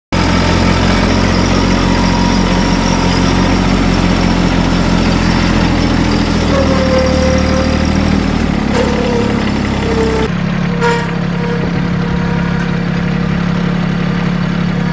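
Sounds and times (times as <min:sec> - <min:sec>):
tractor engine running: 0:00.1 - 0:14.9.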